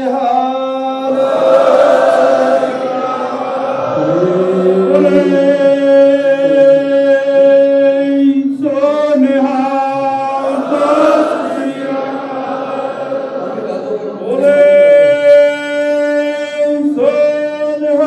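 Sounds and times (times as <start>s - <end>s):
congregation chanting held notes: 0.0s - 18.0s.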